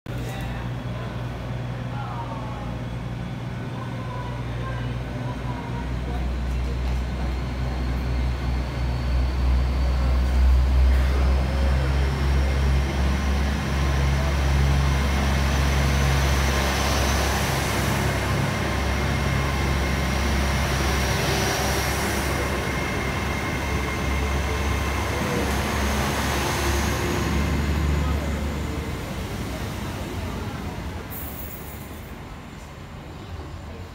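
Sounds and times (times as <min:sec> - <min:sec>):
diesel engine drone: 0:00.5 - 0:33.4
train high whine: 0:00.5 - 0:33.9.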